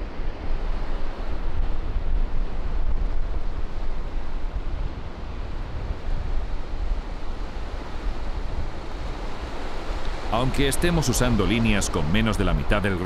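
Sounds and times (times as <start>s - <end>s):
ocean surf breaking on beach: 0.0s - 13.0s
wind rumbling on microphone: 0.0s - 13.0s.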